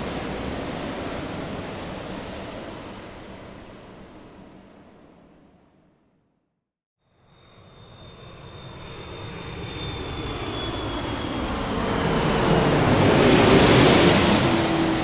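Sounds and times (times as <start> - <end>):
airliner cabin engine noise: 0.0 - 5.5, 7.5 - 15.0.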